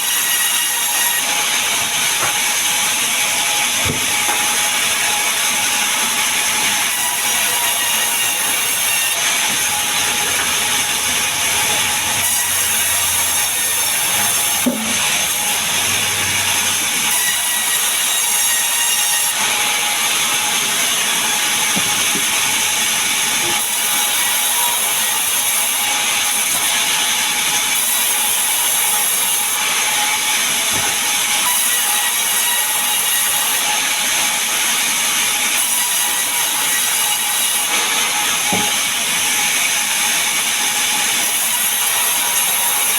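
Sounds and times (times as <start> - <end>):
power saw cutting timber: 0.0 - 42.9.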